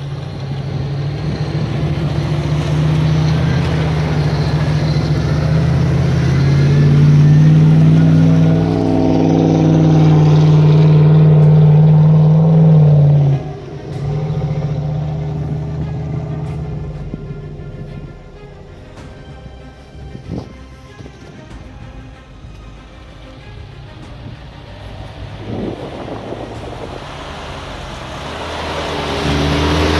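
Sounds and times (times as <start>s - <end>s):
off-road vehicle engine revving: 0.0s - 29.9s.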